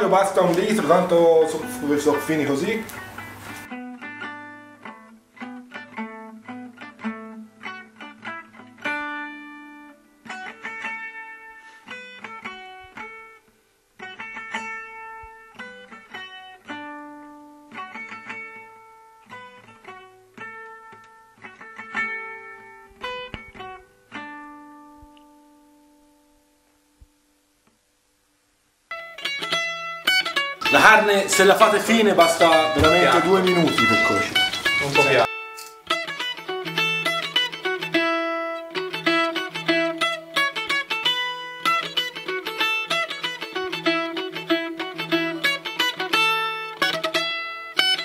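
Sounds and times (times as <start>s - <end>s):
plucked guitar melody: 0.0s - 27.3s, 28.9s - 48.0s.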